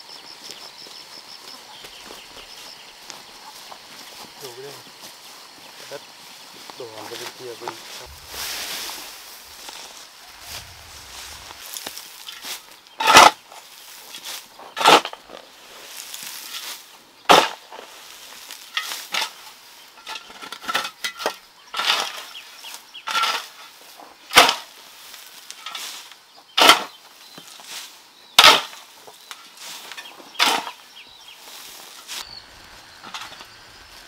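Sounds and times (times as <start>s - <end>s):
faint outdoor background: 0.0s - 34.0s.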